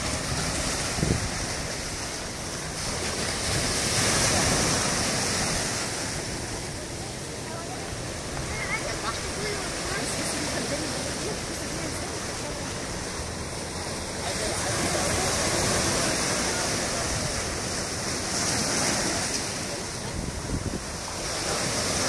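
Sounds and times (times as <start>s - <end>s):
waves breaking on rocky shore: 0.0s - 22.0s.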